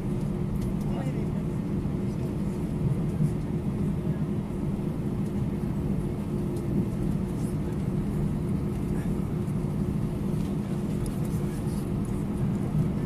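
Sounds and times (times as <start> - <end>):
jet engines humming in cabin: 0.0 - 13.0.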